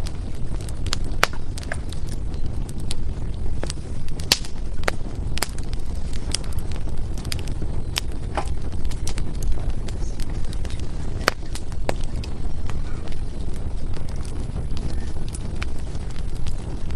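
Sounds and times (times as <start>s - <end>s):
firewood crackling: 0.0s - 16.9s
steady low rumble: 0.0s - 16.9s.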